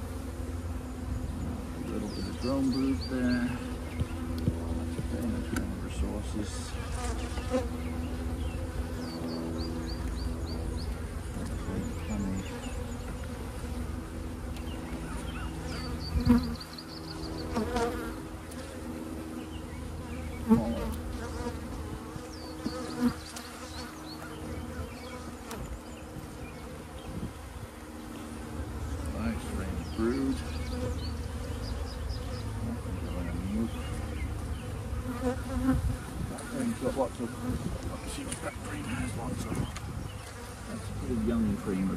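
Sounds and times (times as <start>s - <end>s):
bees buzzing: 0.0s - 41.9s.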